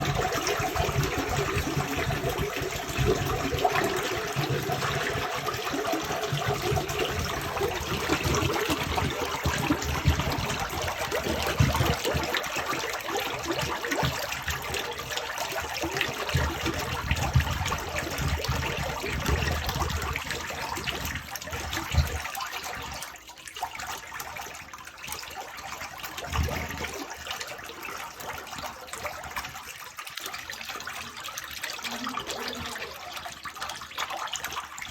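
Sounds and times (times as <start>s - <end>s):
sewer water gushing and splashing: 0.0s - 34.9s.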